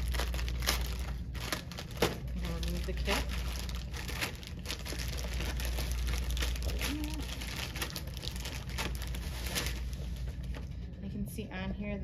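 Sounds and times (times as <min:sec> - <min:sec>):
plastic wrapper crinkling: 0:00.0 - 0:10.6
steady low hum: 0:00.0 - 0:12.0.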